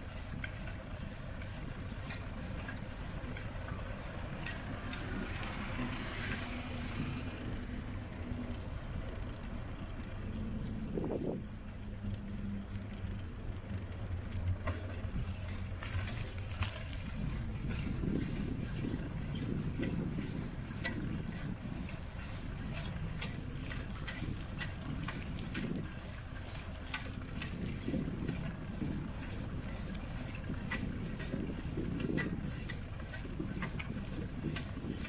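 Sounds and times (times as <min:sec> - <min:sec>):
bicycle rattling and jingling: 0:00.0 - 0:35.0
faint engine hum: 0:00.0 - 0:35.0
wind and tyres rumbling: 0:00.0 - 0:35.0.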